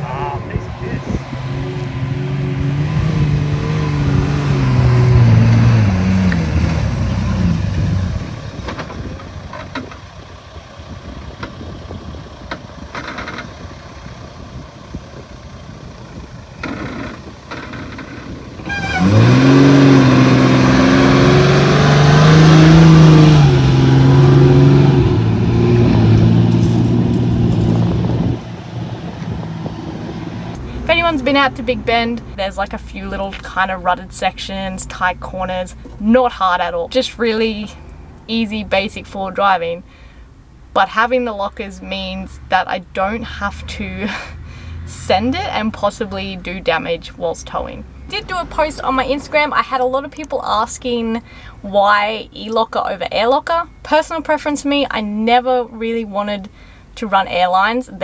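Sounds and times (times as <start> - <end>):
diesel engine working under load: 0.0 - 52.2.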